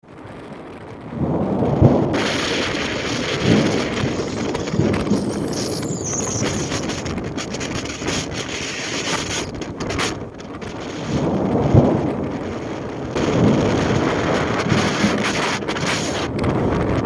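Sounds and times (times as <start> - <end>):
wind gusting over microphone: 0.1 - 17.0
rough sea surf: 1.1 - 17.0.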